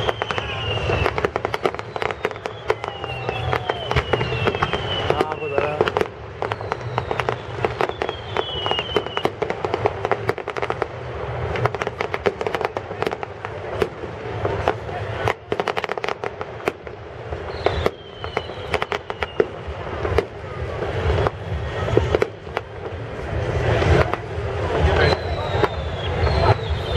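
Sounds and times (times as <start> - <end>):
falling firework whistles: 0.0 - 26.9
fireworks crackling bangs: 0.0 - 26.9.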